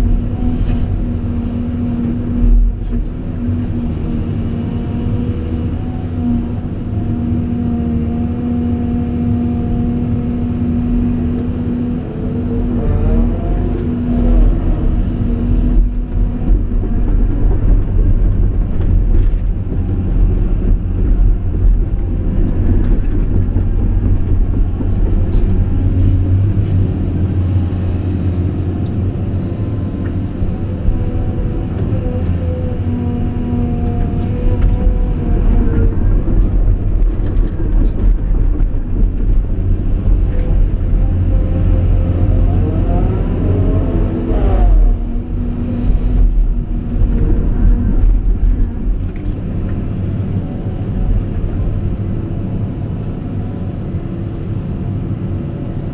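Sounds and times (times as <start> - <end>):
diesel engine rumble: 0.0 - 55.9.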